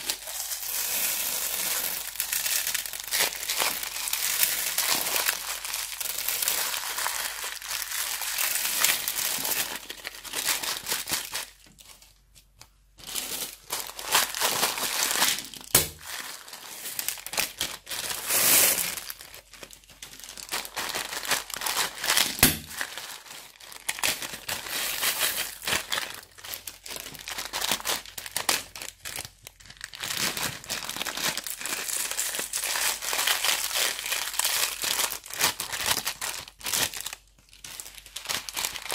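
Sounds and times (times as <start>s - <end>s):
crunchy slime crinkling: 0.0s - 38.9s.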